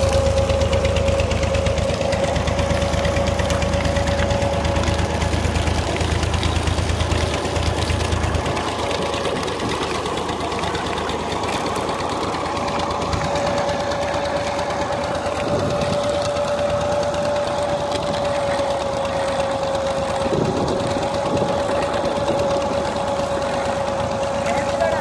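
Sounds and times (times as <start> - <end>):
steady whining tone: 0.0 - 25.0
tractor engine running: 0.0 - 25.0.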